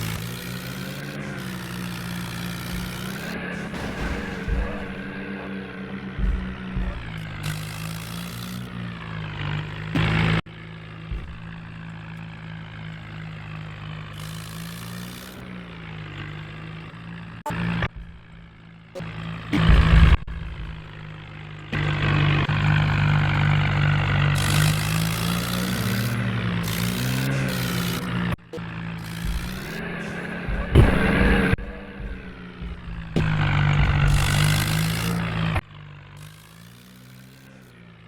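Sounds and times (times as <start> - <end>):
tractor diesel engine droning: 0.0 - 38.0.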